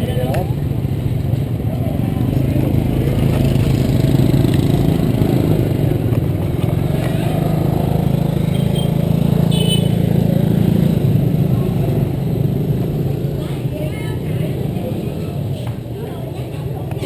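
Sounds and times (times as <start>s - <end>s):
motorbike engine droning: 0.0s - 15.5s.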